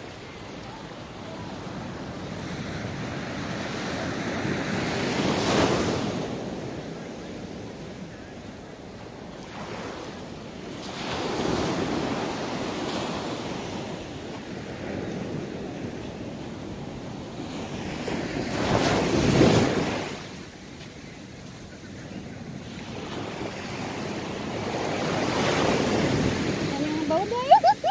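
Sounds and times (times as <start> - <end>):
small waves breaking on beach: 0.0 - 27.9.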